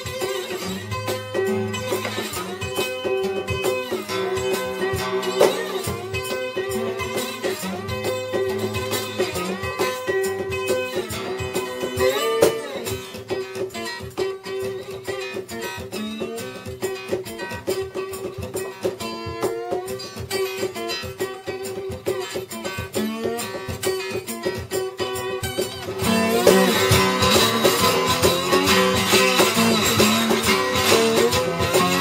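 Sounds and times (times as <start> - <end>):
acoustic guitar blues playing: 0.0 - 32.0.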